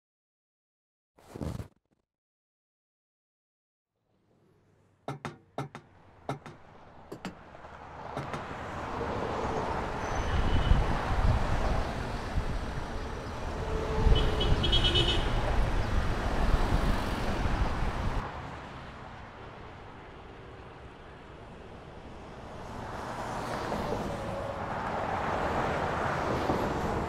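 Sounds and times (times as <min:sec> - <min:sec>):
vehicles passing close by: 0:04.4 - 0:27.0.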